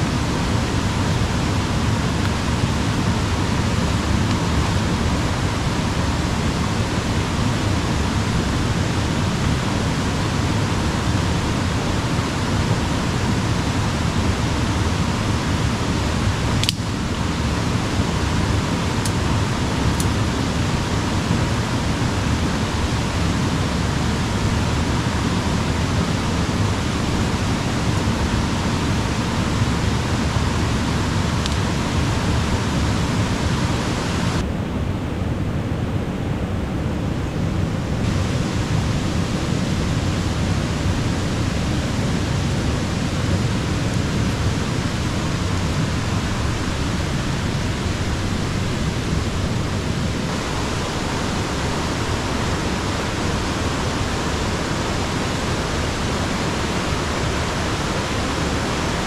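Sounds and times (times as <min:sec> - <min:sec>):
river flowing: 0:00.0 - 0:34.5, 0:36.5 - 0:59.0.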